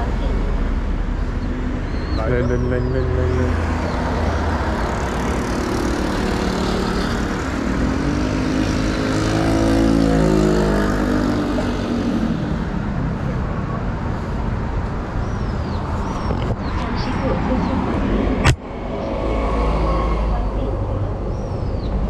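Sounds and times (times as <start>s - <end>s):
road traffic: 0.0s - 22.0s
motorcycle passing by: 2.2s - 14.4s, 15.2s - 22.0s.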